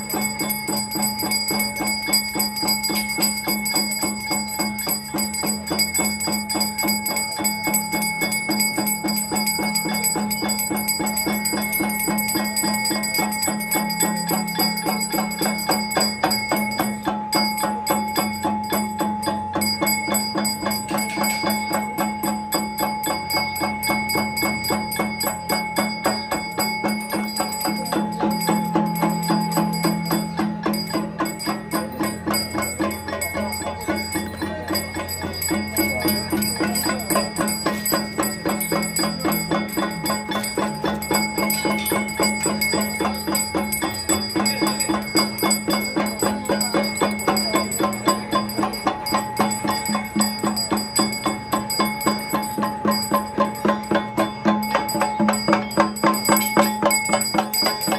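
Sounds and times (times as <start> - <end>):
bells rung rapidly: 0.0 - 57.9.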